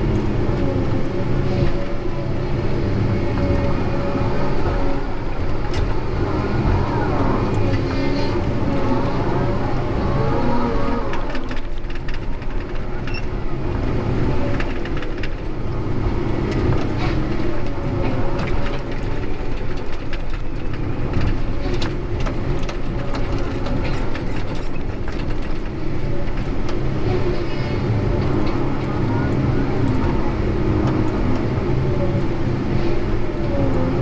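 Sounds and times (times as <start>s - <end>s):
heavy machine engine running: 0.0s - 34.0s.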